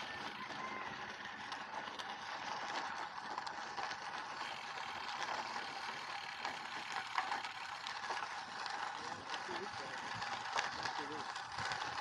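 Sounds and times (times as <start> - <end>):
bicycle tyre rolling: 0.0 - 12.0.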